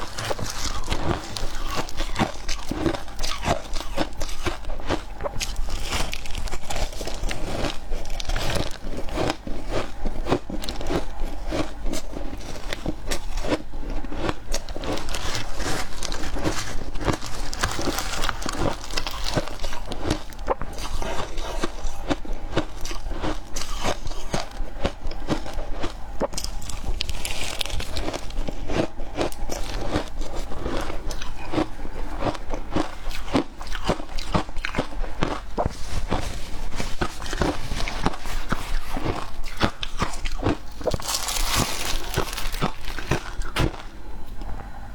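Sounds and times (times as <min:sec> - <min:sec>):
crunching shaved ice: 0:00.0 - 0:43.9.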